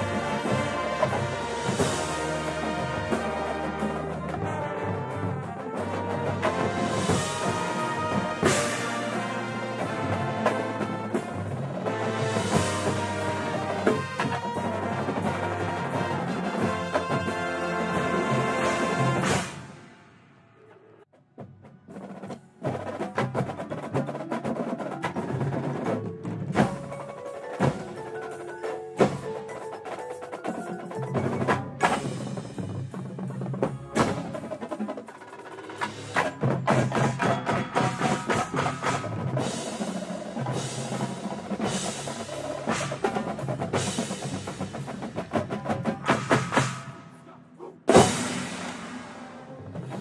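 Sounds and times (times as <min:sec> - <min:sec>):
mallet keyboards: 0:00.0 - 0:19.3, 0:22.0 - 0:50.0
snare drums: 0:00.0 - 0:20.0, 0:21.2 - 0:47.2, 0:47.8 - 0:50.0
tenor drums: 0:00.0 - 0:20.1, 0:21.1 - 0:50.0.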